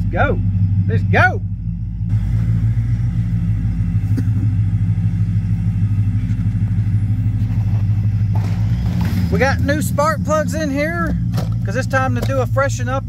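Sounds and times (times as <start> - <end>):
engine idling with loping idle: 0.0 - 13.0.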